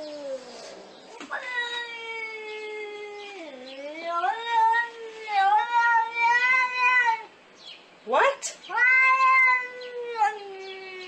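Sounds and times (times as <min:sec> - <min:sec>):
cat yowling: 0:00.0 - 0:07.3, 0:08.7 - 0:11.0.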